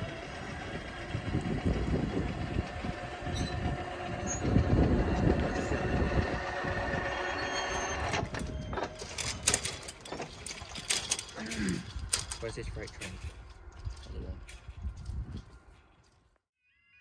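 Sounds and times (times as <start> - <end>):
train rumbling: 0.0 - 15.6.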